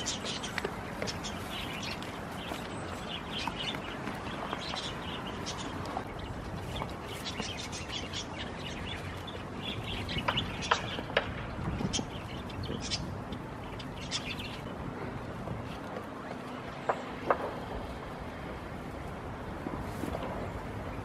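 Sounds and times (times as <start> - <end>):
small birds chirping: 0.0 - 19.2
outdoor background noise: 0.0 - 21.0.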